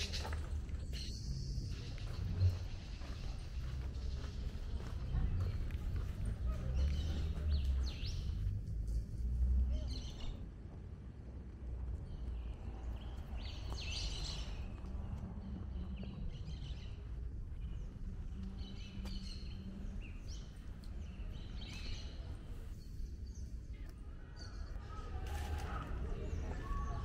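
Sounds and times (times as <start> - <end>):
small birds chirping: 0.0 - 10.7, 11.8 - 27.0
low background rumble: 0.0 - 27.0.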